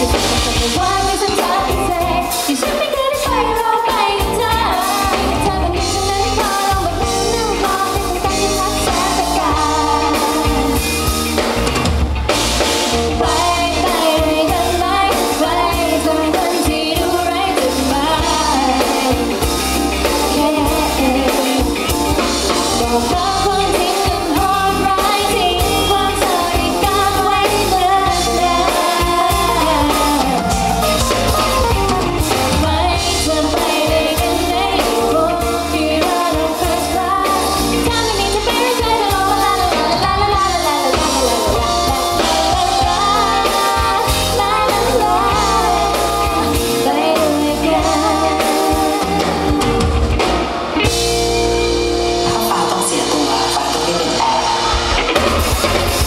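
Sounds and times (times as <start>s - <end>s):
woman singing: 0.0s - 10.9s, 13.1s - 30.8s, 32.5s - 50.2s, 52.2s - 54.6s
bass guitar: 0.0s - 56.0s
drum kit: 0.0s - 56.0s
electric guitar: 0.0s - 56.0s.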